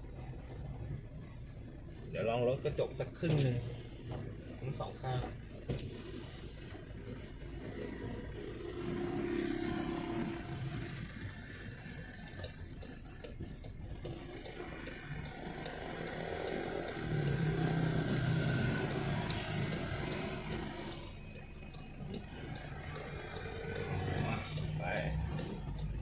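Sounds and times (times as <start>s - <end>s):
road and wind noise: 0.0s - 26.0s
turbocharged car engine: 0.0s - 26.0s.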